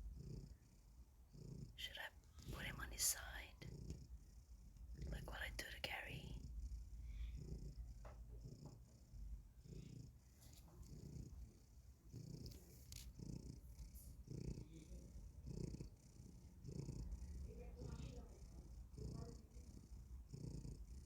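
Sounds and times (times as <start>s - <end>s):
cat snoring faintly: 0.0s - 21.0s.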